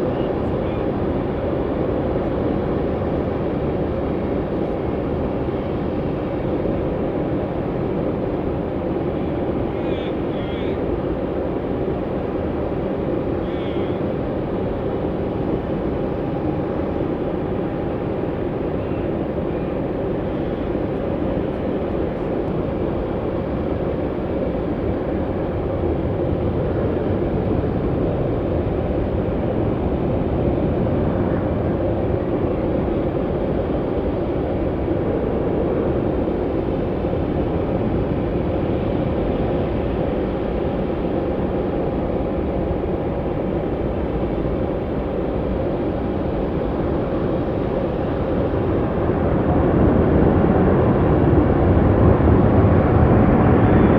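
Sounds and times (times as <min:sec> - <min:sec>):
aircraft engines running: 0:00.0 - 0:53.9
faint constant whine: 0:00.0 - 0:53.9.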